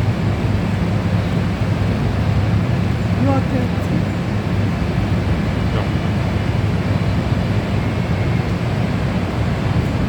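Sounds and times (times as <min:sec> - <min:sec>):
locomotive diesel engine rumbling: 0:00.0 - 0:10.0.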